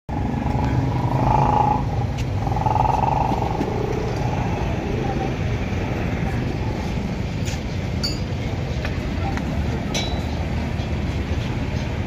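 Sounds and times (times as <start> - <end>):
low engine rumble: 0.1 - 12.0.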